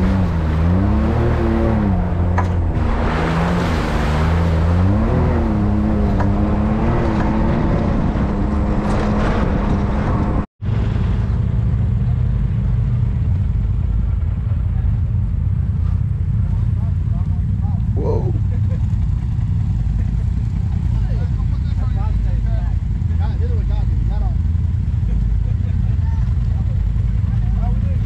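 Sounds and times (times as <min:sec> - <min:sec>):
low engine drone: 0:00.0 - 0:28.0
side-by-side engine revving: 0:00.0 - 0:28.0.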